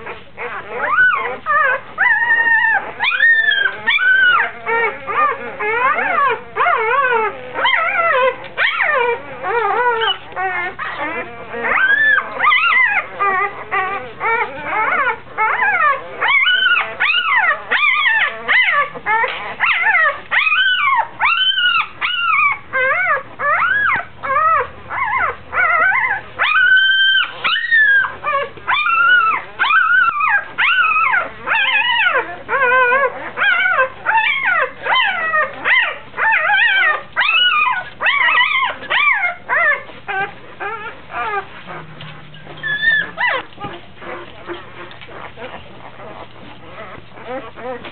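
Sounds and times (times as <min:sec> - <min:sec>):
puppy squealing: 0:00.0 - 0:47.9.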